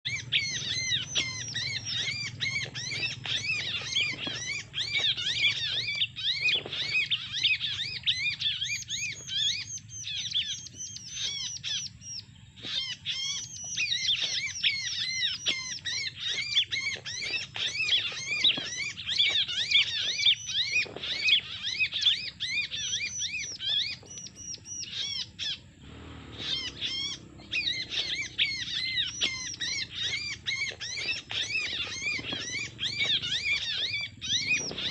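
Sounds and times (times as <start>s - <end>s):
bird rapid high chirps: 0.0s - 34.9s.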